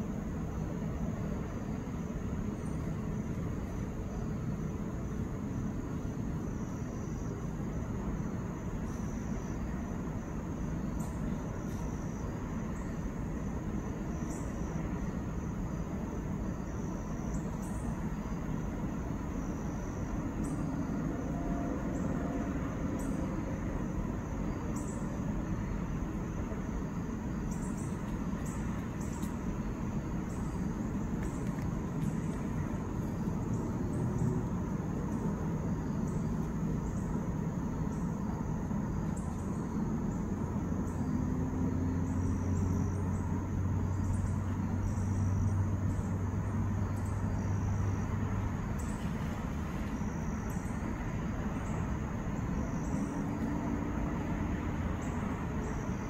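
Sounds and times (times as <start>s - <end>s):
insects singing: 0.0s - 56.0s.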